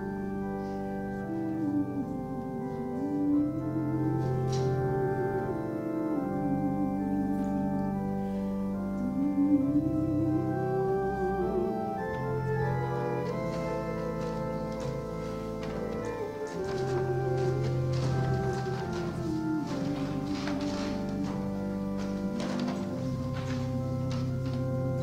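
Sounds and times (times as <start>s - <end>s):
church organ chords: 0.0s - 25.0s.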